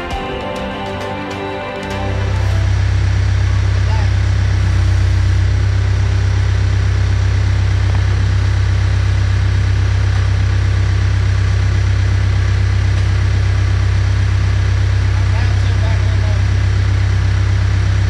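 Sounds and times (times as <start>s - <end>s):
forklift engine idling: 0.0s - 18.0s.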